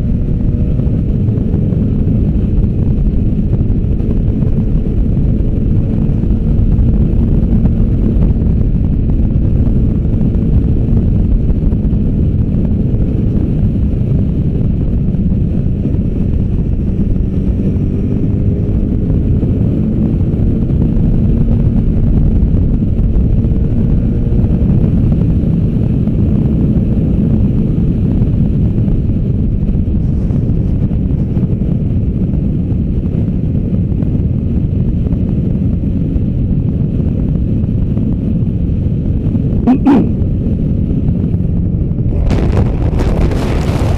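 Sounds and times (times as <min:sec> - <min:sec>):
wind noise on microphone: 0:00.0 - 0:43.9.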